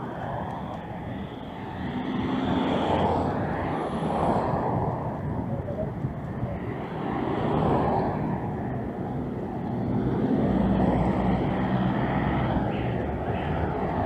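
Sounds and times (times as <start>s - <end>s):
road noise: 0.0s - 14.0s
vehicle engines running: 0.0s - 14.0s.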